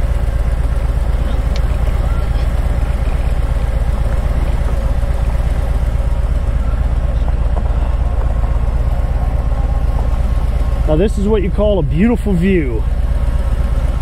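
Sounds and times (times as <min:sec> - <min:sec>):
motorcycle engine idling at low revs: 0:00.0 - 0:14.0.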